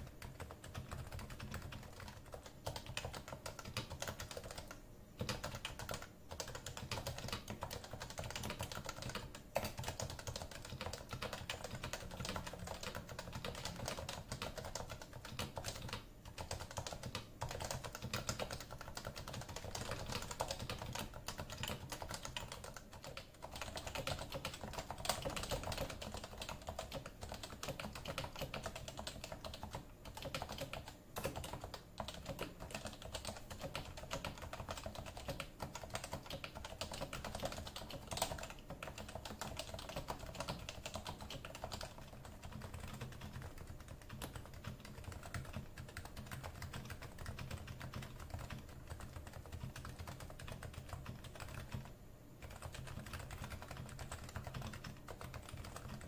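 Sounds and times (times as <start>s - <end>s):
fast typing on keyboard: 0.0s - 56.0s.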